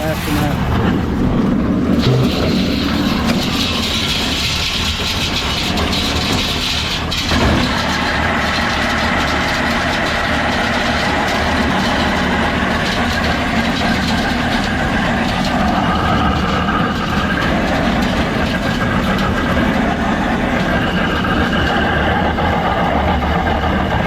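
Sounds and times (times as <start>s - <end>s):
feed grinder growling: 0.0s - 24.0s
tractor engine running: 0.0s - 24.0s.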